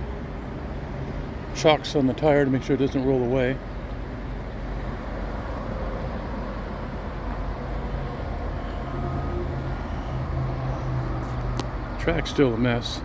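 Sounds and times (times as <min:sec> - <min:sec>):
outdoor noise: 0:00.0 - 0:13.0
vehicle engine humming: 0:00.0 - 0:13.0.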